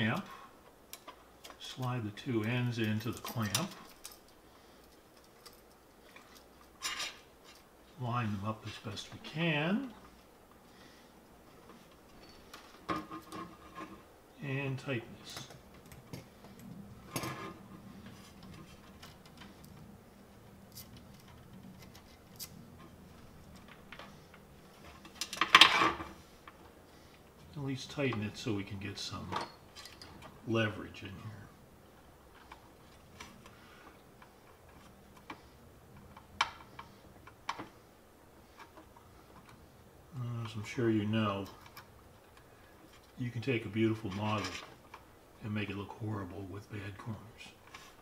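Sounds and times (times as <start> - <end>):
faint steady hum: 0.0 - 48.0
rustle of handling: 0.0 - 48.0.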